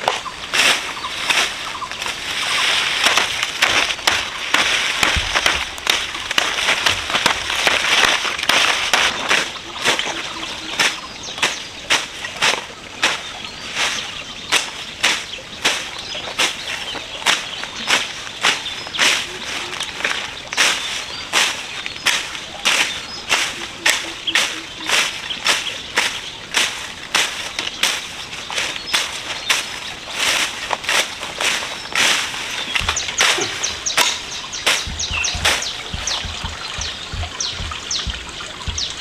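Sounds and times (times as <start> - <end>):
rustling: 0.0 - 39.0.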